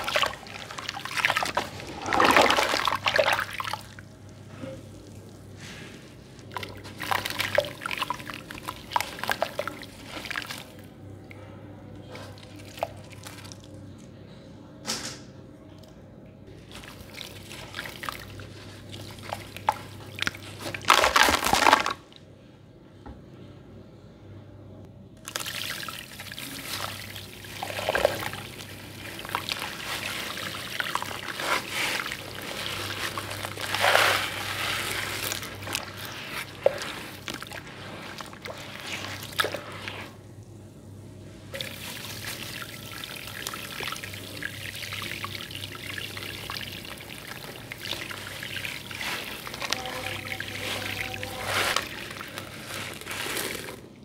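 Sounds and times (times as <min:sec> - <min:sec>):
water sloshing and splashing: 0:00.0 - 0:14.0, 0:16.5 - 0:22.2, 0:25.2 - 0:40.5, 0:41.5 - 0:54.0
faint steady hum: 0:00.0 - 0:54.0.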